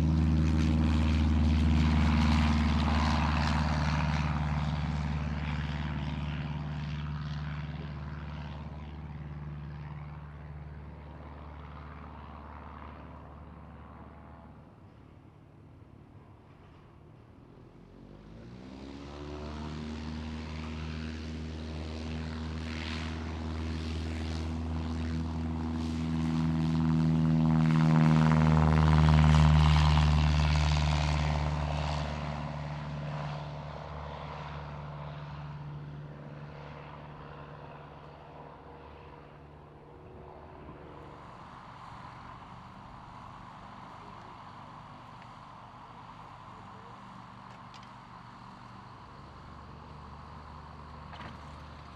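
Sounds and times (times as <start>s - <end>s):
propeller airplane engine: 0.0s - 51.9s.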